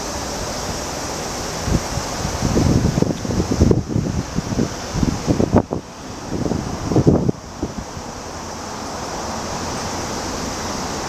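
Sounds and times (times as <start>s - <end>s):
high-pitched outdoor hiss: 0.0s - 11.0s
wind buffeting microphone: 0.0s - 11.0s.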